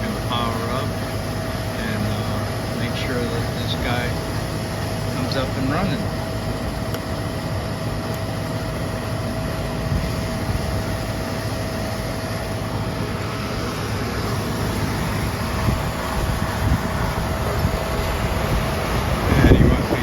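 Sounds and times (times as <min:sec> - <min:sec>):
air conditioner unit humming: 0:00.0 - 0:20.0.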